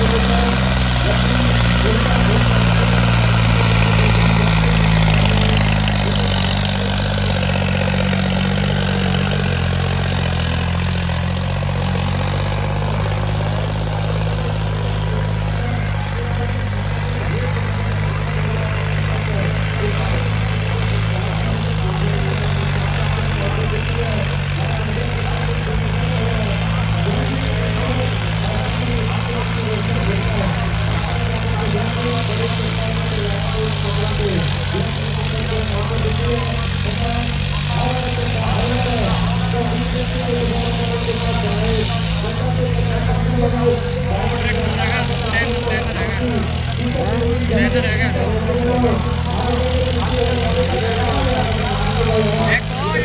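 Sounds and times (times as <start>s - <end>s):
tractor diesel engine droning: 0.0s - 53.0s.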